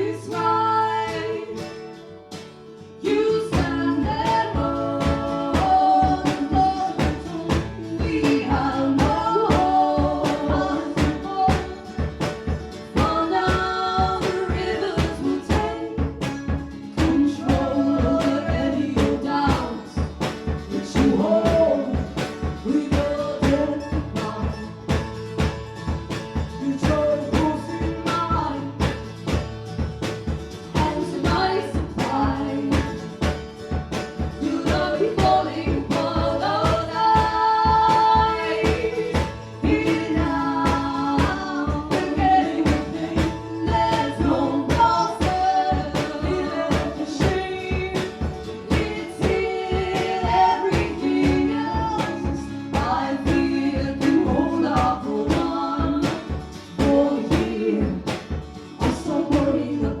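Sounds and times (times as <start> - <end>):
woman singing: 0.0 - 2.0, 2.9 - 29.4, 30.6 - 60.0
strummed rhythm: 0.0 - 60.0.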